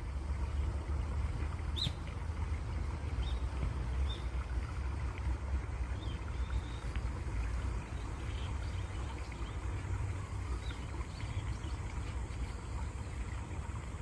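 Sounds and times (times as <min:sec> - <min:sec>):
steady water with low rumble: 0:00.0 - 0:14.0.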